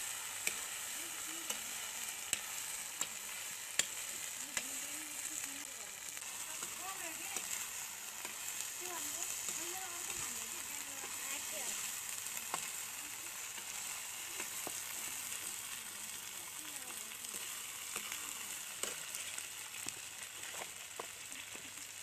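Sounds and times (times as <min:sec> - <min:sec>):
locusts sizzling in pan: 0:00.0 - 0:22.0.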